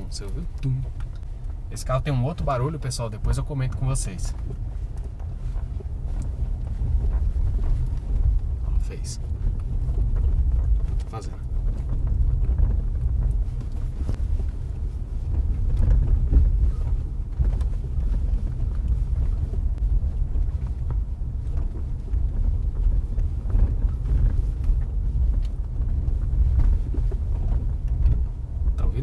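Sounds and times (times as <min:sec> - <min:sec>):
low road rumble: 0:00.0 - 0:29.0.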